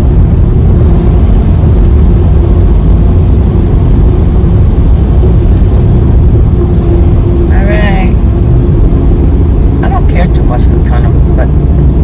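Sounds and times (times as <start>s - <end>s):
car driving through tunnel: 0.0s - 12.0s.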